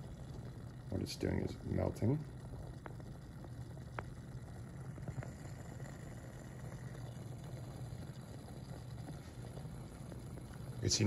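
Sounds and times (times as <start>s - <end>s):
water boiling: 0.0s - 11.0s
faint ticks: 2.0s - 10.9s.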